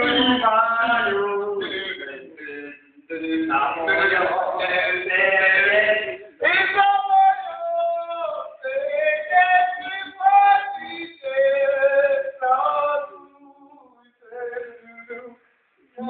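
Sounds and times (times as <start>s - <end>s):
person singing long held notes: 0.0s - 15.4s.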